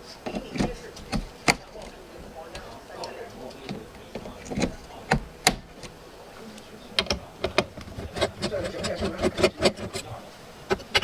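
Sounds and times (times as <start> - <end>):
computer parts clicking and knocking: 0.2 - 6.0, 6.9 - 11.0.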